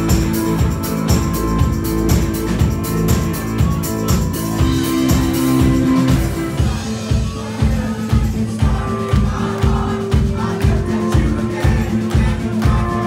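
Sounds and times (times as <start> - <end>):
kick drum pulsing: 0.0 - 13.0
live rock band playing: 0.0 - 13.0.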